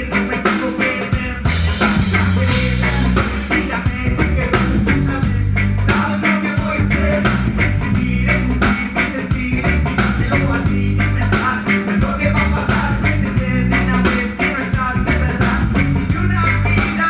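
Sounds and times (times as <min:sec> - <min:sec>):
heavy bass: 0:00.0 - 0:17.0
live band playing: 0:00.0 - 0:17.0
steady drum beat: 0:00.0 - 0:17.0.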